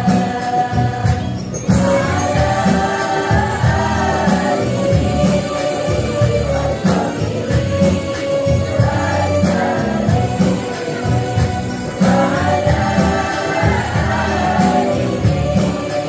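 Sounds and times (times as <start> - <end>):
percussion beat: 0.0 - 16.0
women's choir singing: 0.0 - 16.0.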